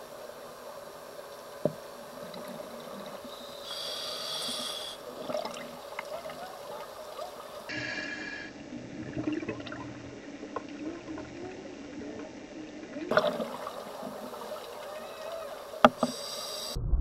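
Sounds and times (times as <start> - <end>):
low steady hum: 0.0 - 17.0
regulator bubbling underwater: 1.0 - 7.7, 8.5 - 17.0.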